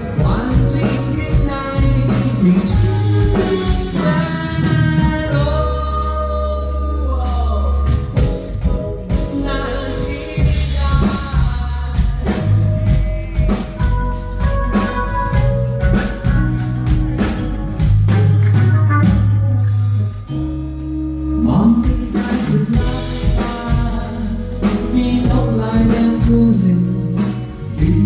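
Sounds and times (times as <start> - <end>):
bass: 0.0 - 28.0
drums: 0.0 - 28.0
melodic lead line: 0.0 - 28.0.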